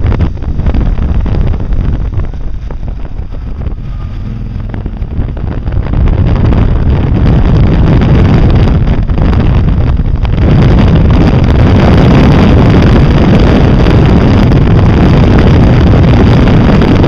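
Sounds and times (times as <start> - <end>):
vehicle engine running: 0.0 - 17.0
wind buffeting microphone: 0.0 - 17.0.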